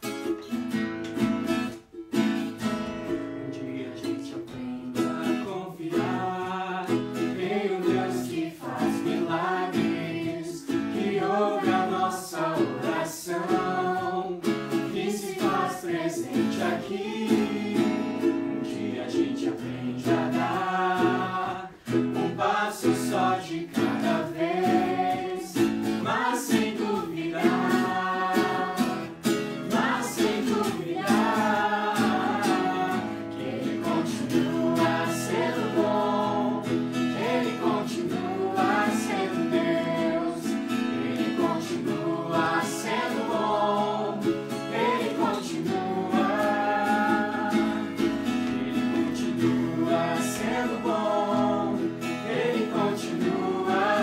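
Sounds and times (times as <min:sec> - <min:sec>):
strummed acoustic guitar: 0:00.0 - 0:54.0
voices singing together: 0:03.0 - 0:54.0.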